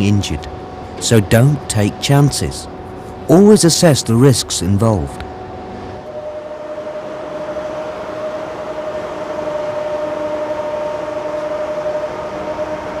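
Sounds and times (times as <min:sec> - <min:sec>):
mechanical rumble and hiss: 0:00.0 - 0:13.0
steady warning tone: 0:00.0 - 0:13.0.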